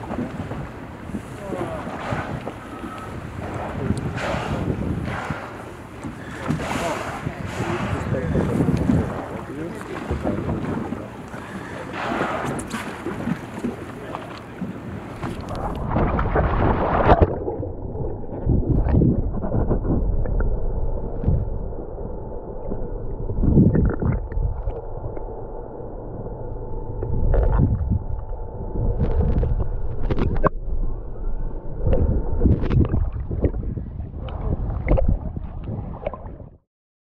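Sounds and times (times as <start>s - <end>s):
low rumble: 0.0s - 36.6s
water sloshing and bubbling: 0.0s - 36.6s
faint steady hum: 4.8s - 35.2s.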